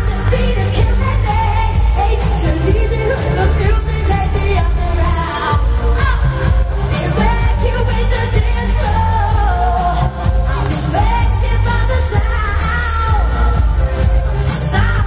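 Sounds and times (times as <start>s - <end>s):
electronic backing with heavy bass: 0.0s - 15.0s
woman singing: 0.0s - 15.0s.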